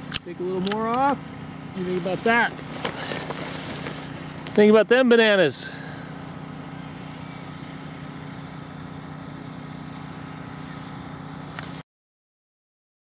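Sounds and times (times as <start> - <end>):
low mechanical hum: 0.0 - 11.8.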